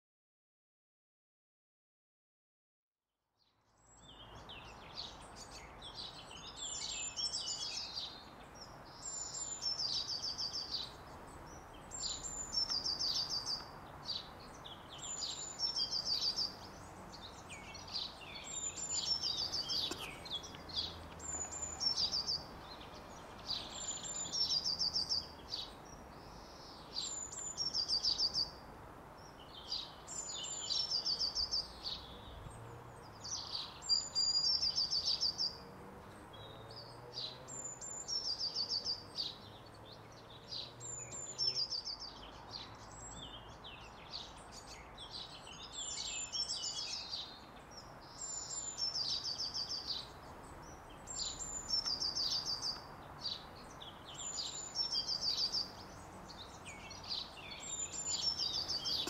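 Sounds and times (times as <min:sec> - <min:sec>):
songbird singing high phrase: 0:03.9 - 0:35.6, 0:36.3 - 0:59.0.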